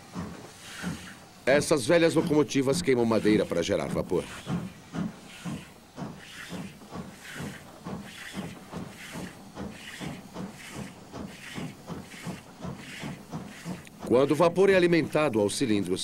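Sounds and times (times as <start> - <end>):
steam hissing: 0.0 - 16.0
steam locomotive chuffing: 0.0 - 16.0.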